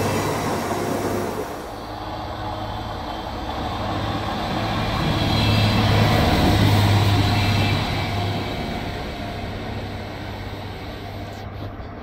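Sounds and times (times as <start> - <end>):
train engine drone: 0.0 - 12.0
wheel and rail rumble: 0.0 - 12.0.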